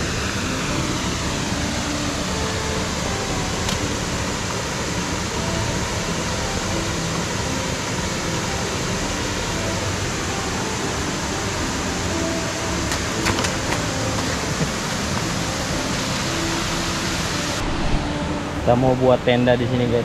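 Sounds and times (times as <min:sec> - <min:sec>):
stream water rushing over rocks: 0:00.0 - 0:20.0.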